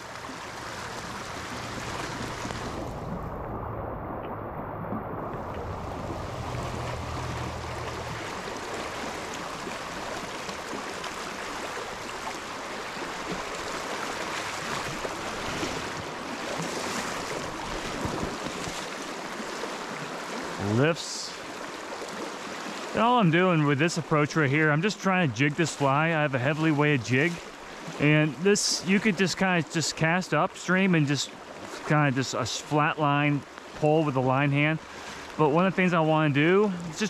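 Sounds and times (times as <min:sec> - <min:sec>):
creek rushing over rocks: 0:00.0 - 0:03.5, 0:04.3 - 0:37.0.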